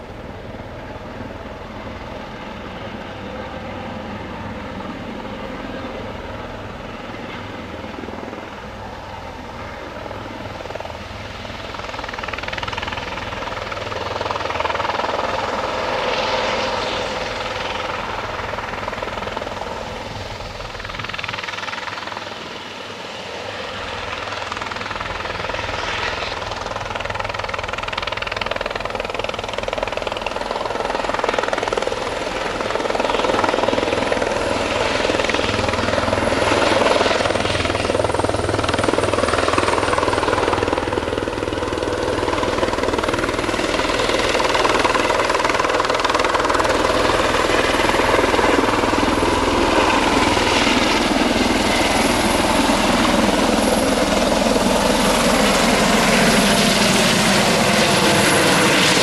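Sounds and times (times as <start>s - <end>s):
helicopter hovering and flying: 0.0s - 59.0s.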